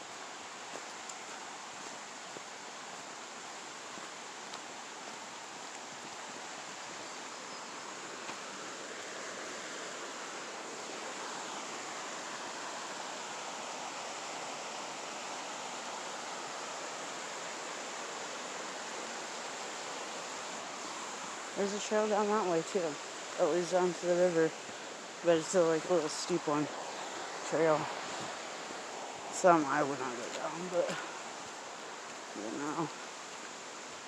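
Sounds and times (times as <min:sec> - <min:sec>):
flowing water rushing: 0:00.0 - 0:34.0.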